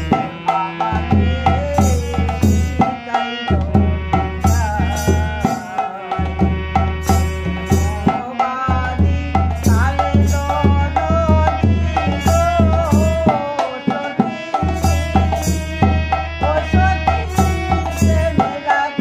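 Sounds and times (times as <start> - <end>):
hand drum rhythm: 0.0 - 19.0.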